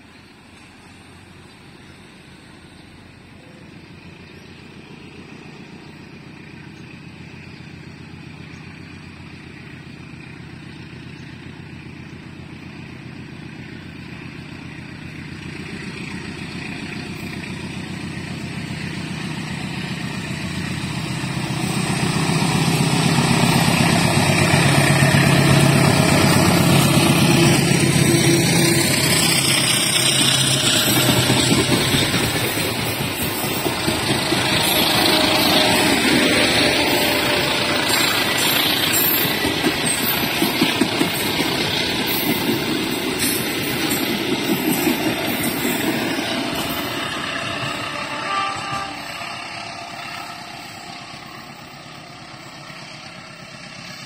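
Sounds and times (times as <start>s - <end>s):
coaches rumbling on rails: 0.0s - 54.0s
locomotive engine hum: 0.0s - 54.0s.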